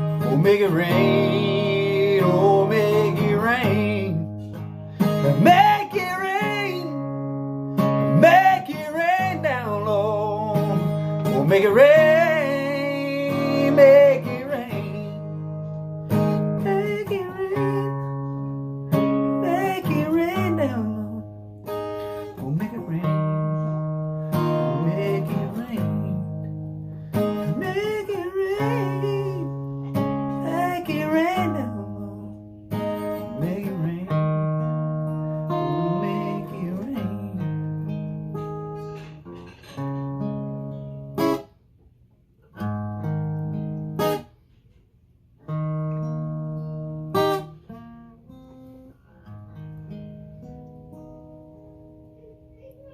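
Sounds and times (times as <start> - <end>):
acoustic guitar playing blues: 0.0 - 52.9.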